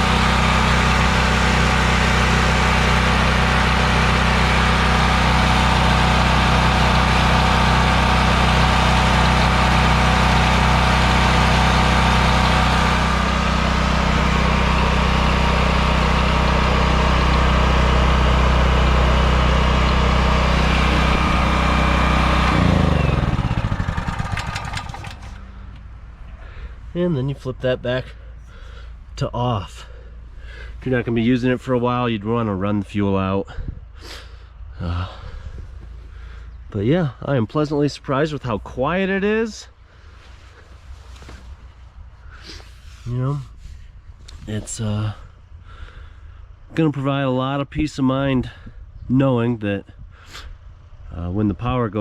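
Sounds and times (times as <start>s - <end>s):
generator engine running: 0.0s - 31.6s, 33.6s - 46.9s.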